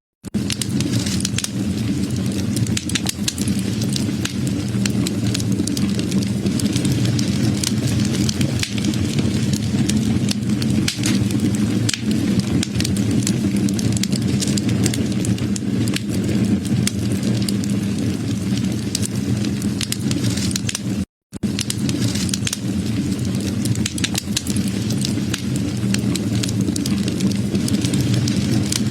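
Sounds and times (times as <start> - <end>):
wood fire crackling: 0.2 - 28.9.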